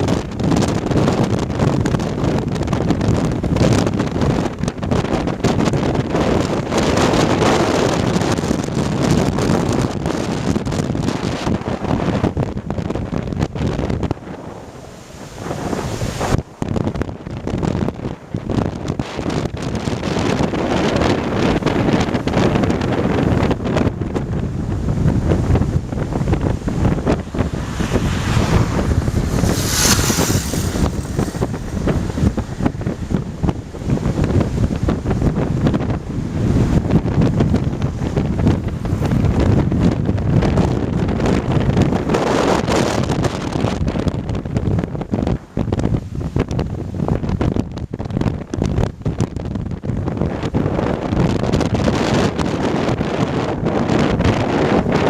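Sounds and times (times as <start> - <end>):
wind gusting against microphone: 0.0 - 55.0.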